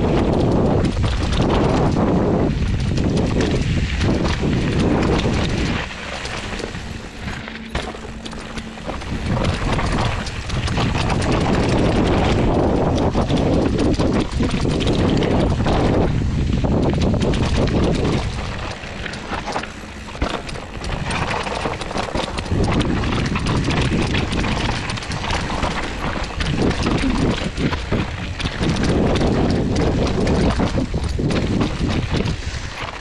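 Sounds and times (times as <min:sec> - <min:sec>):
bike rattling over bumps: 0:00.0 - 0:33.0
bike tyres rolling over dirt: 0:00.0 - 0:33.0
wind on microphone: 0:00.0 - 0:33.0.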